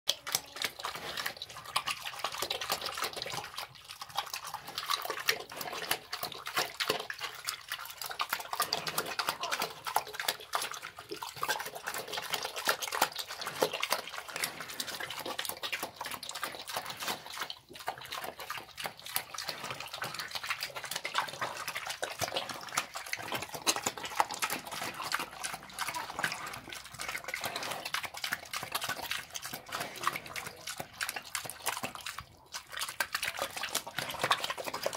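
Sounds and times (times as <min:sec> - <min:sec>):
pig slurping and chomping: 0:00.1 - 0:34.9.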